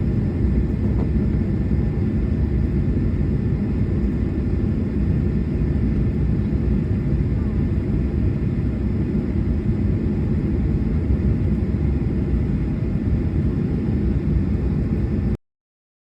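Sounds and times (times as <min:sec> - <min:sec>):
low rumble of moving vehicle: 0:00.0 - 0:15.3.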